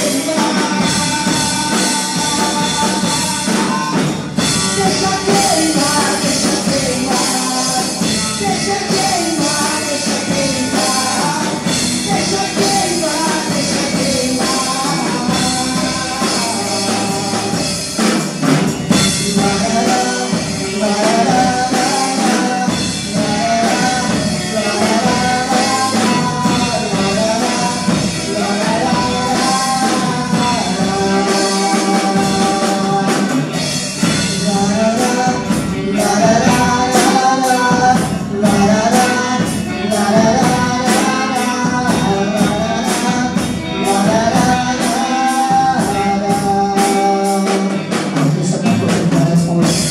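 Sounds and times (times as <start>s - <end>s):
band with drum kit: 0.0s - 49.9s
gospel singing: 0.0s - 49.9s.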